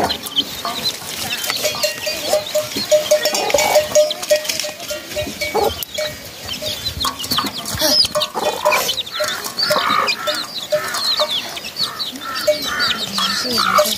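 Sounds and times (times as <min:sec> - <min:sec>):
chicks peeping: 0:00.0 - 0:13.9
hen clucking: 0:00.0 - 0:13.9.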